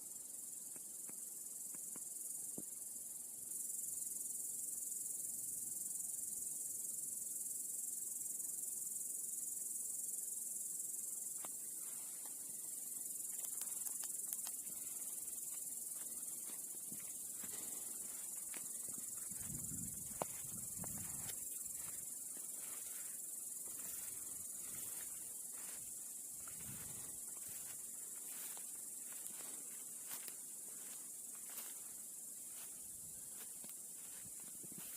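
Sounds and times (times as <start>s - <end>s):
crickets chirring: 0.0s - 34.9s.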